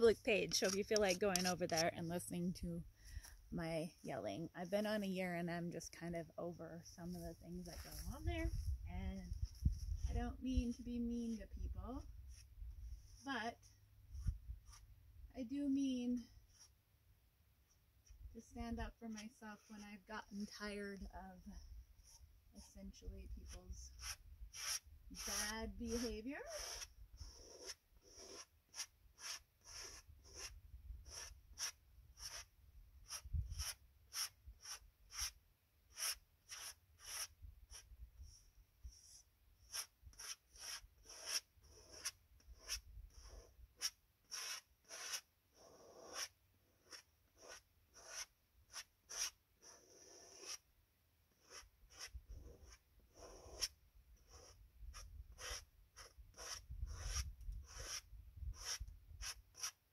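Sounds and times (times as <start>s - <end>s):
scratchy paint strokes on canvas: 0.0s - 2.4s, 3.0s - 15.0s, 15.7s - 16.8s, 18.0s - 50.7s, 51.3s - 59.9s.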